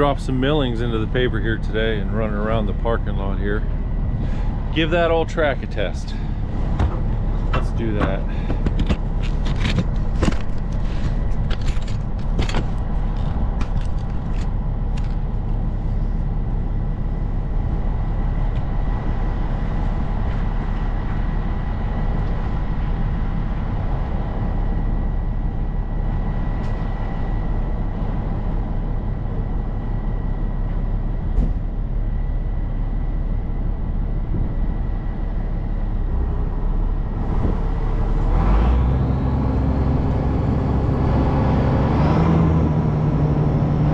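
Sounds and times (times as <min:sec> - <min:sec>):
diesel engine running: 0:00.0 - 0:43.9
thin steady whine: 0:00.0 - 0:43.9.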